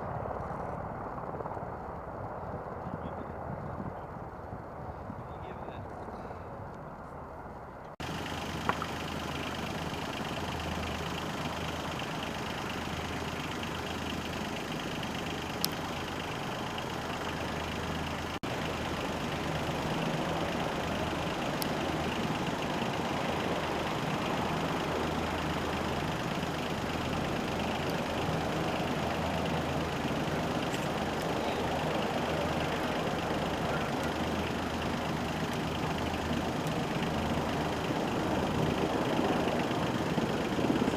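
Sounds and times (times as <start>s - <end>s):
helicopter engines and rotors: 0.0s - 40.9s.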